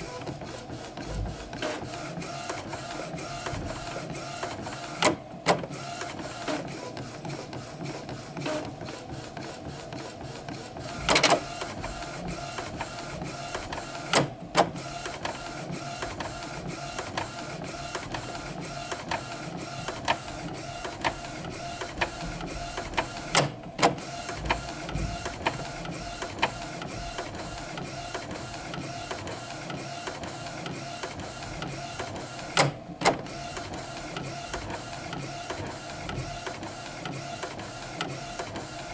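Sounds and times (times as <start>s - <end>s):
printer knocking: 0.0s - 5.7s, 10.8s - 38.9s
printer whine and clicks: 0.0s - 38.9s.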